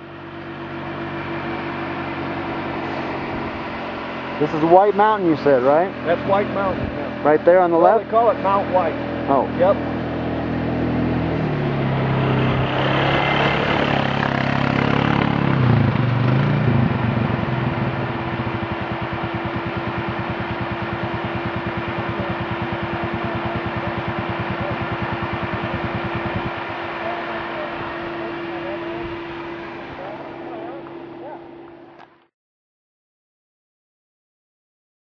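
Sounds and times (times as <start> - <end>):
vehicle engine idling: 0.0 - 32.2.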